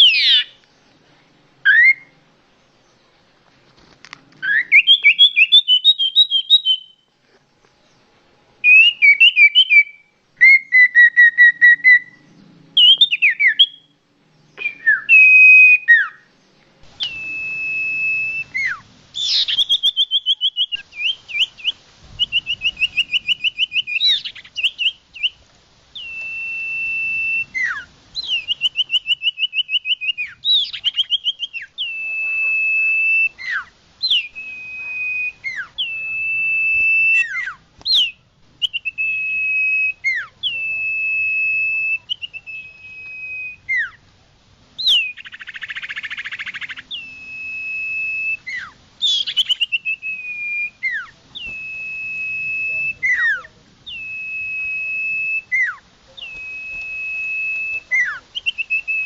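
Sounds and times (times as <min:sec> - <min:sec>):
bird singing trills and whistles: 0:00.0 - 0:00.7, 0:01.6 - 0:02.2, 0:04.4 - 0:07.1, 0:08.6 - 0:25.4, 0:26.0 - 0:44.0, 0:44.8 - 0:59.0.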